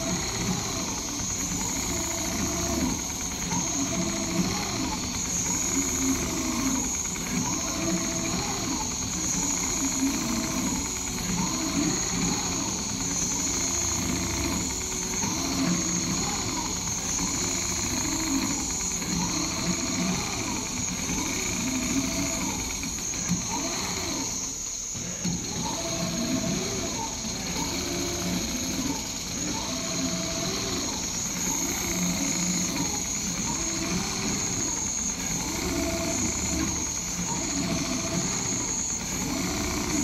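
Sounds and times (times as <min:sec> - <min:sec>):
drive motor tones: 0:00.0 - 0:40.0
sewing machine stitching: 0:00.0 - 0:40.0.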